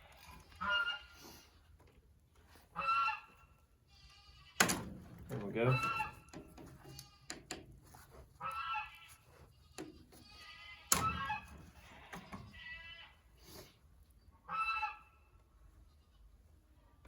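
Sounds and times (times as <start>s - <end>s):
farm animal bleating: 0.0s - 1.7s, 2.7s - 4.7s, 5.4s - 7.7s, 8.3s - 13.4s, 14.4s - 17.0s.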